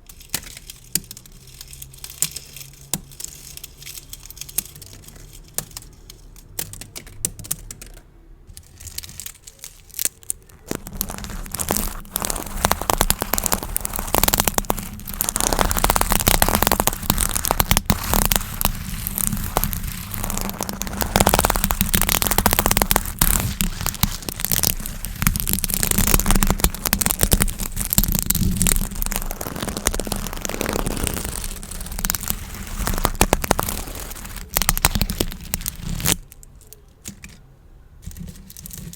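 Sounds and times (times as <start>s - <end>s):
gift bows crinkling: 0.0s - 37.4s, 38.0s - 38.9s
scattered clicks: 0.0s - 37.4s.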